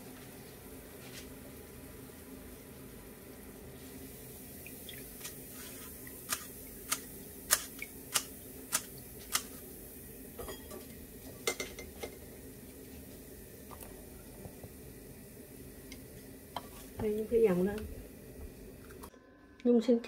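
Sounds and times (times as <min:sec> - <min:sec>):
hot oil frying: 0:00.4 - 0:19.1.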